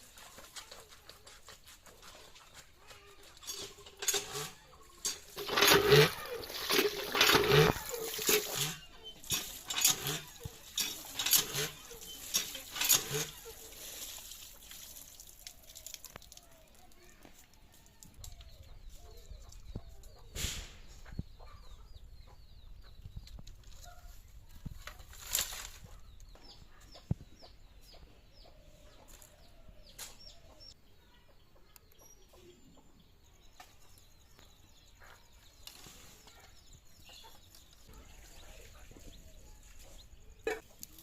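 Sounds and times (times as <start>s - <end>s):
chickens clucking: 0.0s - 14.6s, 18.4s - 41.0s
small birds chirping: 0.0s - 41.0s.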